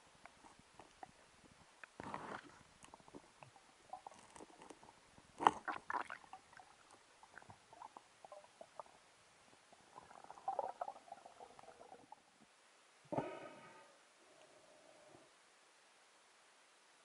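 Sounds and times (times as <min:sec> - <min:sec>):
faint crackle: 0:00.0 - 0:17.0.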